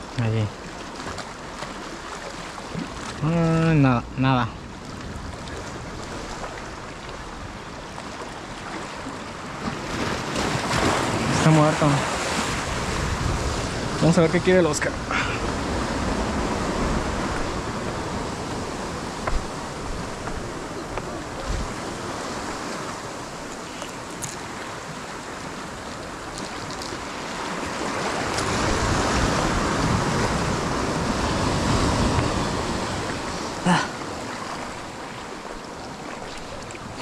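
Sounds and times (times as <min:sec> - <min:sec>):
surf washing around rocks: 0:00.0 - 0:37.0.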